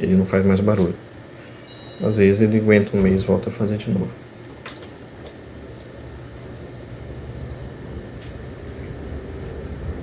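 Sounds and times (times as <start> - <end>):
cooling fan humming: 0.0 - 10.0.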